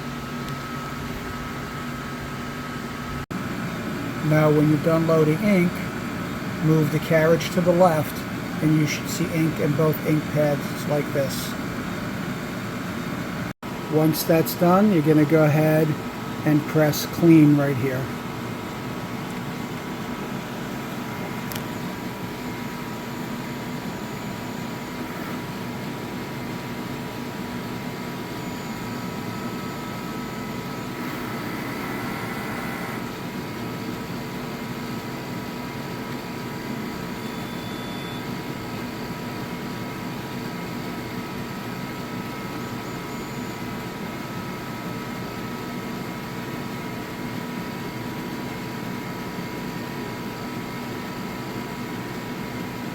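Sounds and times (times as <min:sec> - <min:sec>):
printer machine hum: 0:03.2 - 0:52.9.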